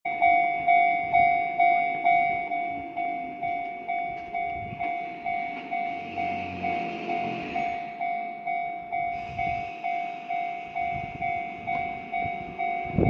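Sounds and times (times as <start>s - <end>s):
level crossing warning bell: 0.1s - 13.0s.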